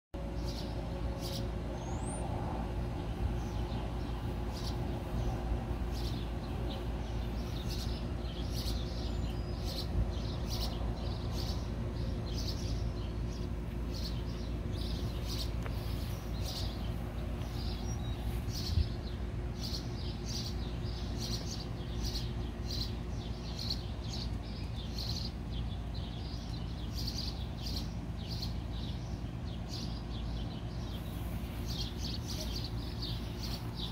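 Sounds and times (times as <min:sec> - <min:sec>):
low background hum: 0:00.2 - 0:33.9
songbirds chirping: 0:00.2 - 0:33.9.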